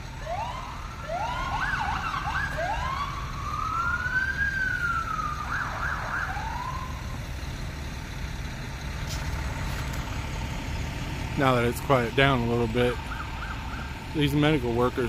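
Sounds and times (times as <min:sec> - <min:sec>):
emergency sirens wailing: 0:00.0 - 0:15.0.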